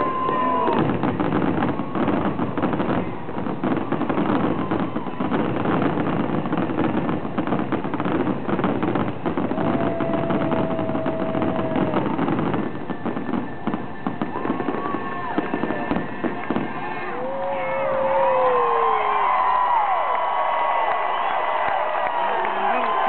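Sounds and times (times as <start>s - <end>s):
fireworks bursting and crackling: 0.0s - 19.8s.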